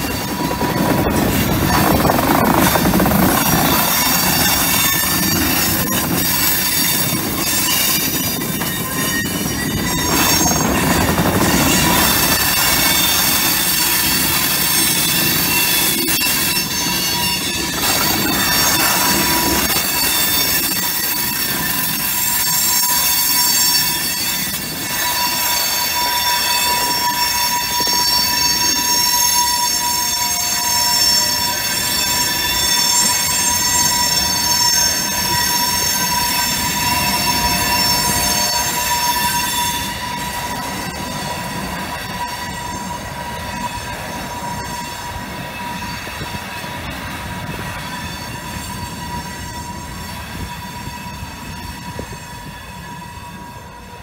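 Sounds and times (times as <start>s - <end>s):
rail cars rumbling: 0.0s - 54.0s
steel wheels squealing: 0.0s - 54.0s.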